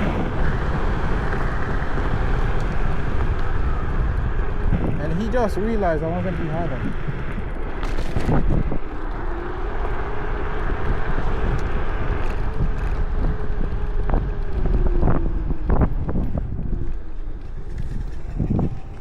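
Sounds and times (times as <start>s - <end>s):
faint electric motor whine: 0.0s - 19.0s
wind buffeting microphone: 0.0s - 19.0s.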